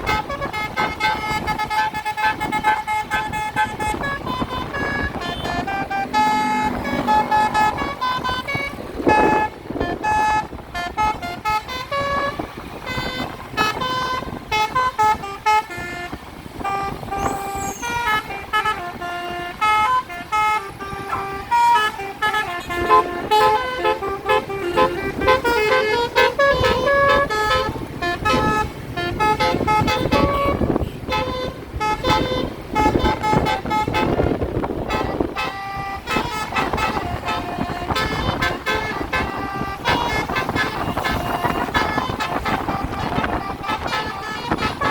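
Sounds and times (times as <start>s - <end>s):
bus engine: 0.0s - 44.9s
multi-tone air horn tune: 0.0s - 44.9s
road noise: 0.0s - 44.9s.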